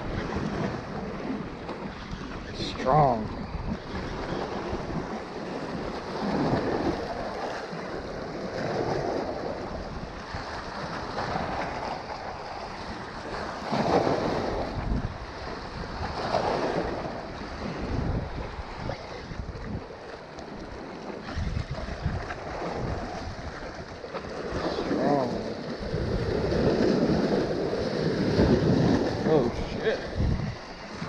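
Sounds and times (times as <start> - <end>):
waves breaking over rocks: 0.0 - 31.0
wind on microphone: 0.0 - 31.0.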